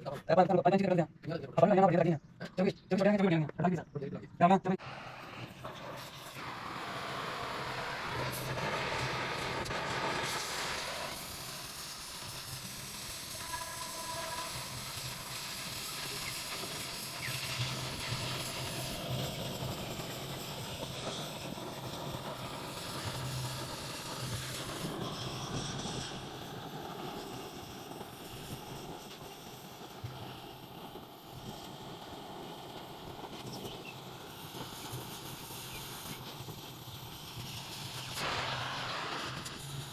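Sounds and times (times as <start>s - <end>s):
machinery noise with hiss: 4.8s - 39.9s.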